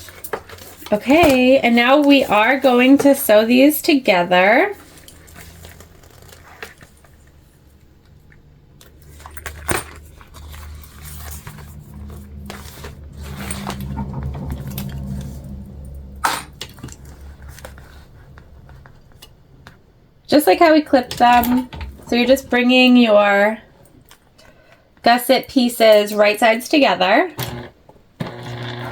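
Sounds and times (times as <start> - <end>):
low steady hum: 0.0 - 25.1.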